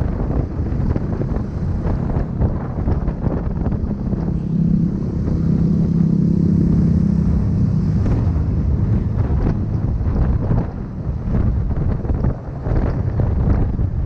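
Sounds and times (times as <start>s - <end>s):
low rumble: 0.0s - 14.0s
motorbike engine hum: 0.0s - 14.0s
wind buffeting microphone: 0.0s - 14.0s.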